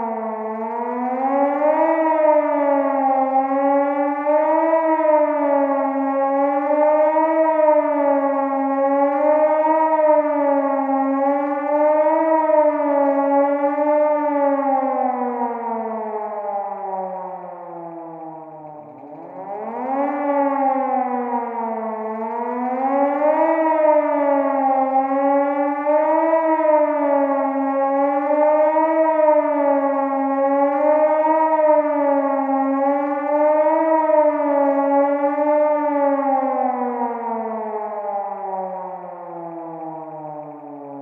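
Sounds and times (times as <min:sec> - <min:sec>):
fire siren wailing: 0:00.0 - 0:41.0.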